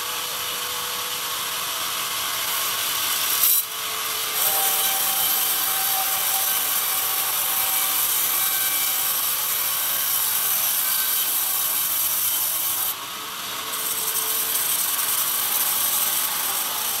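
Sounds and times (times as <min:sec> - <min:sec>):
band saw cutting wood: 0:00.0 - 0:17.0.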